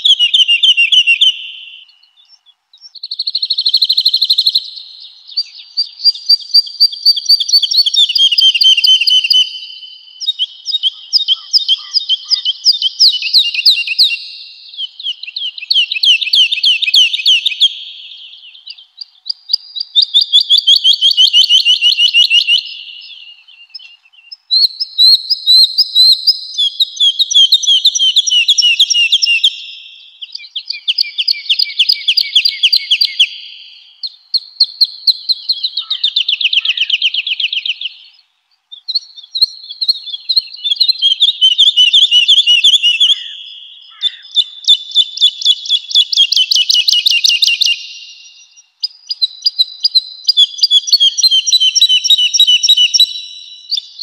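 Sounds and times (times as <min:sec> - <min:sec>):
woodlark singing: 0:00.0 - 0:54.0.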